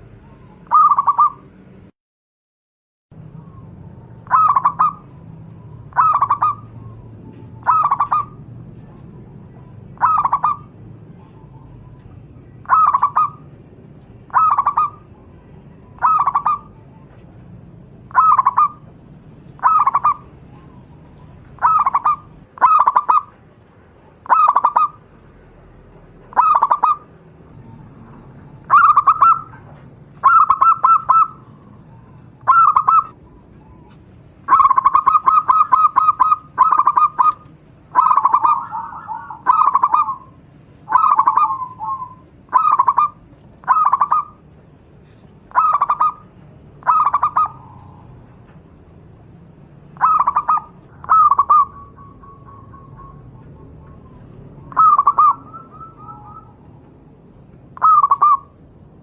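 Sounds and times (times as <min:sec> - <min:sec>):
dove cooing: 0:00.0 - 0:01.5, 0:03.2 - 0:25.1, 0:26.2 - 0:48.9, 0:49.9 - 0:58.6.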